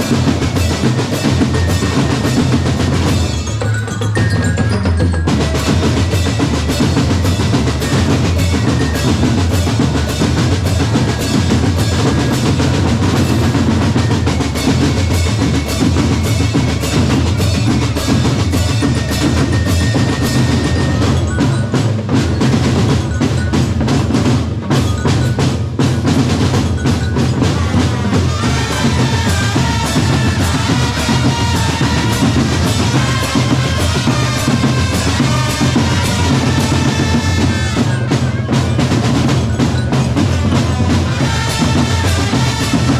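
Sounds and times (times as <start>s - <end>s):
bass drums beating: 0.0s - 42.9s.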